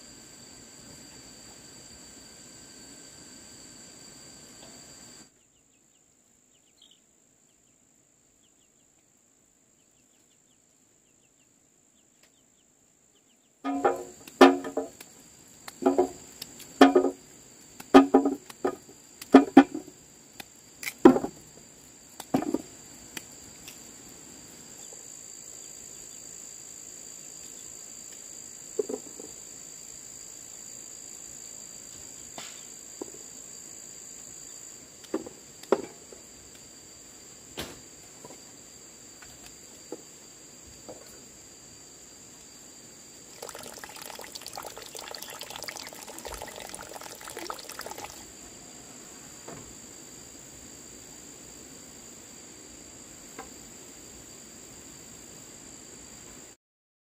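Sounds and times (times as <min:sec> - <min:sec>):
insects chirring: 0:00.0 - 0:08.8, 0:09.8 - 0:56.6.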